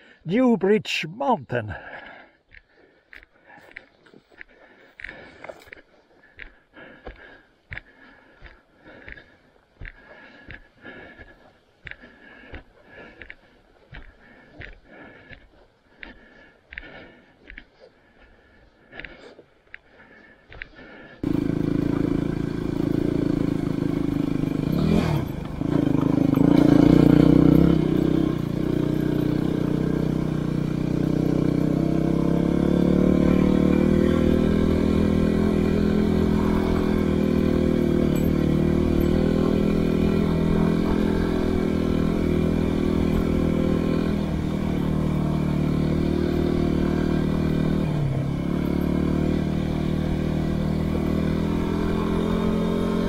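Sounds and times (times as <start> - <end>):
motorcycle engine running: 2.8 - 19.0, 20.0 - 53.0.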